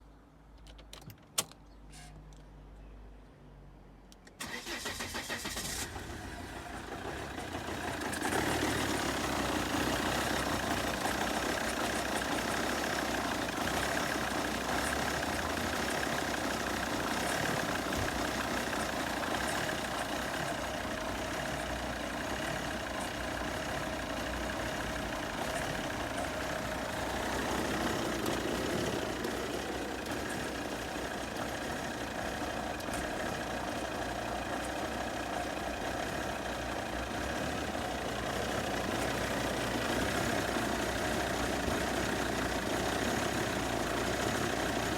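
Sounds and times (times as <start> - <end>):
diesel engine cranking and idling: 4.2 - 44.9.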